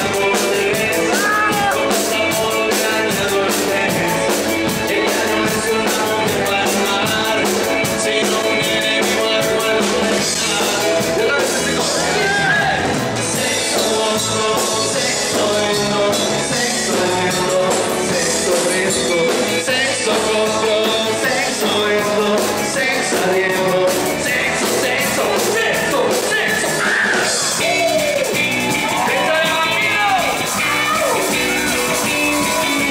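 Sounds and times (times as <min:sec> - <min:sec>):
band playing a song: 0:00.0 - 0:32.9
person singing: 0:00.0 - 0:32.9.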